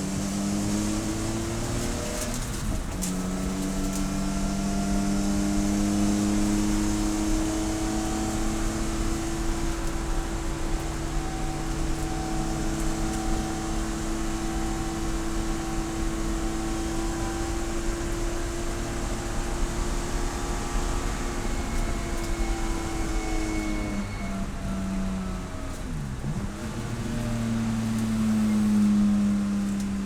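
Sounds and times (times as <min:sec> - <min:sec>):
race car engine: 0:00.0 - 0:30.0
wind and road noise: 0:00.0 - 0:30.0.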